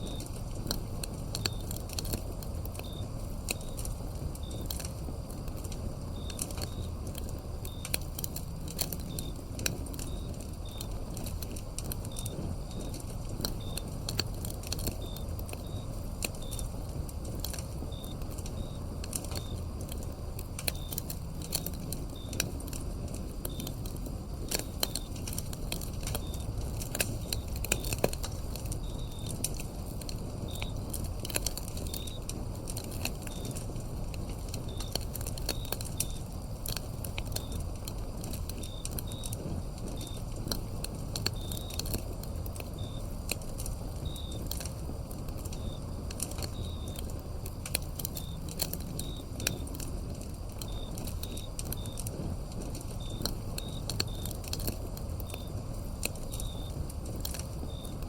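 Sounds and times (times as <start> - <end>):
crickets chirping: 0.0 - 58.0
wood fire crackling and popping: 0.0 - 58.0.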